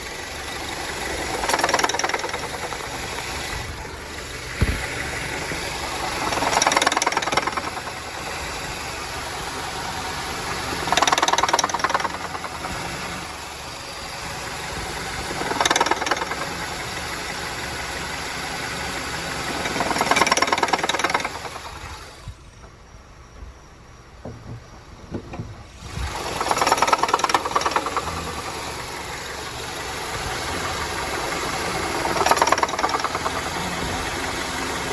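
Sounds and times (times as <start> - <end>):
car engine rattling and knocking: 0.0 - 34.9.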